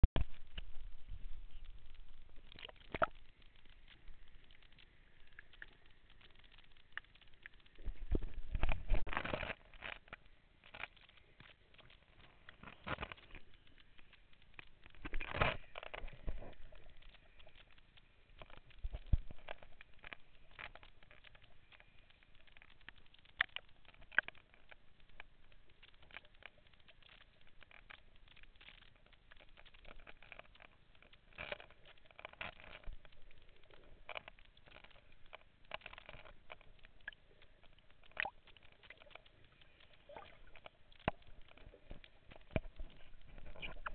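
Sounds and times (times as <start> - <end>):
underwater clicking and crackling: 0.0 - 43.9.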